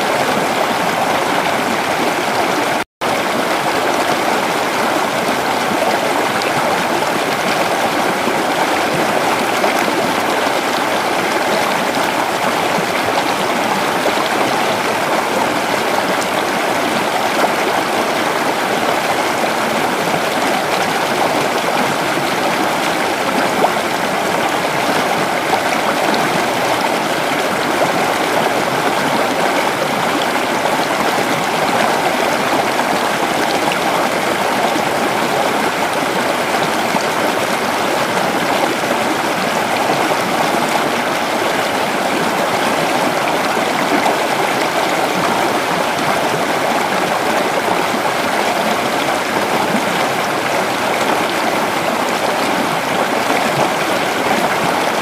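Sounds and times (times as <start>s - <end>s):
creek water flowing over stones: 0.0s - 55.0s.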